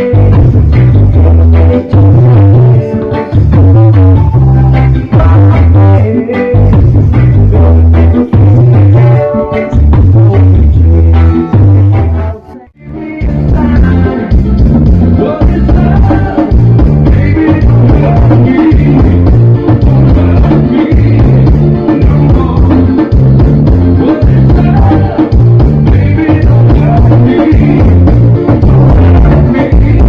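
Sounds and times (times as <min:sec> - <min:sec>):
loud music with heavy bass beat: 0:00.0 - 0:30.0
person singing: 0:00.0 - 0:30.0.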